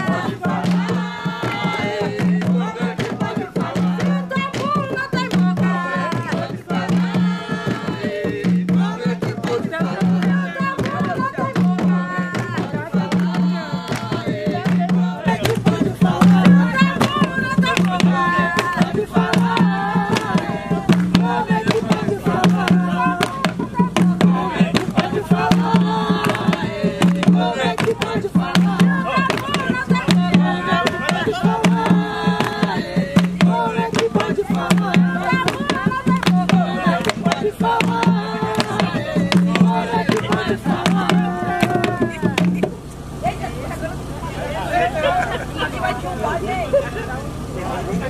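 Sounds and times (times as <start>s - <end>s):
hand drums beating: 0.0s - 42.8s
voices singing: 0.0s - 48.0s.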